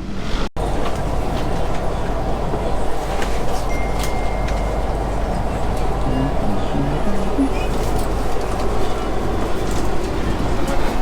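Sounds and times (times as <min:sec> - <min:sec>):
electric train rumble inside carriage: 0:00.0 - 0:11.0.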